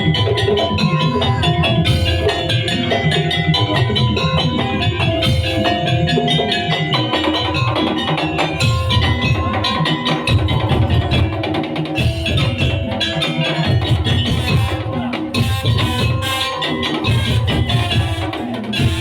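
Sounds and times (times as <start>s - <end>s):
pitched percussion notes: 0.0s - 19.0s
wooden slit drums beating: 0.0s - 19.0s.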